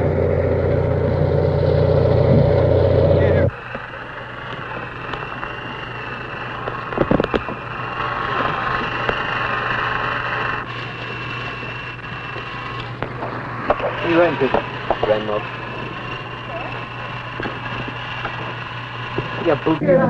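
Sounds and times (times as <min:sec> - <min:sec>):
constant low hum: 0:00.0 - 0:20.0
steady hiss: 0:00.0 - 0:20.0.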